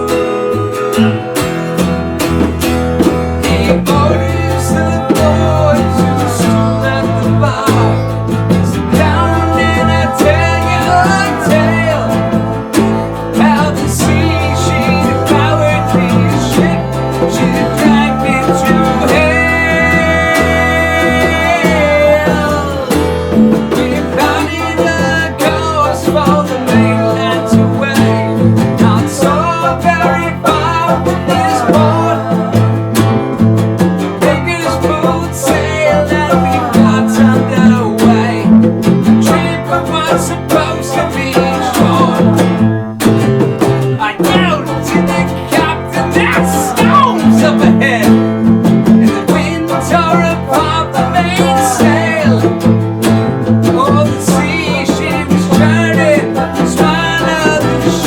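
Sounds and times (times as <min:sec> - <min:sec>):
guitar: 0:00.0 - 0:58.0
rock band playing: 0:00.0 - 0:58.0.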